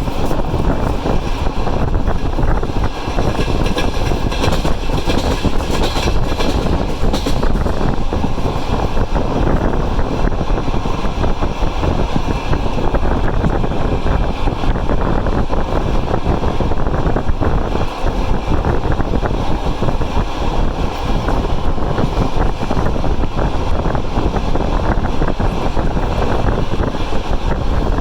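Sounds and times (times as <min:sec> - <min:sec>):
train rumbling on track: 0:00.0 - 0:28.0
wind noise on microphone: 0:00.0 - 0:28.0.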